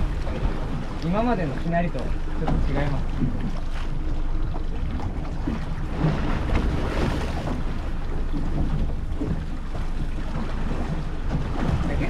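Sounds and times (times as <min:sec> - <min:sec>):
boat engine rumble: 0:00.0 - 0:12.0
waves: 0:00.0 - 0:12.0
wind buffeting microphone: 0:00.0 - 0:12.0.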